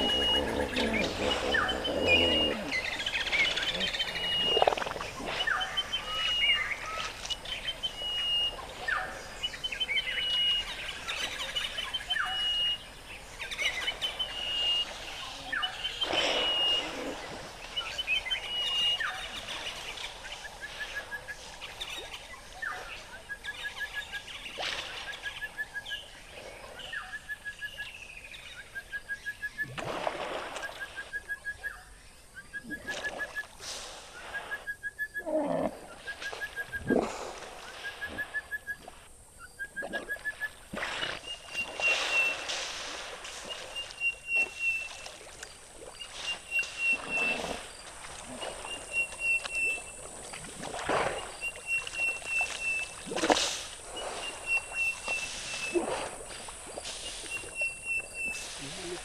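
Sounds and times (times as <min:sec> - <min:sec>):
bird pulsed call: 0:00.0 - 0:24.4, 0:30.5 - 0:33.6, 0:34.2 - 0:42.5, 0:43.4 - 0:45.1, 0:46.0 - 0:50.1, 0:51.0 - 0:56.0, 0:57.0 - 0:59.0.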